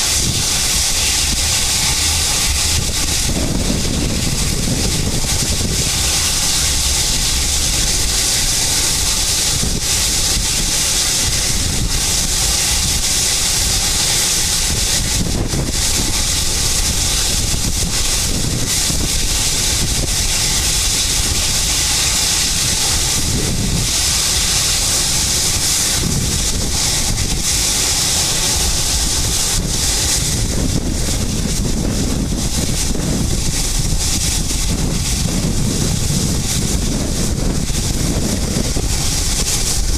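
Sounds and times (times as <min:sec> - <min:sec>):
jet engines at takeoff power: 0:00.0 - 0:39.9
wind buffeting microphone: 0:00.0 - 0:39.9.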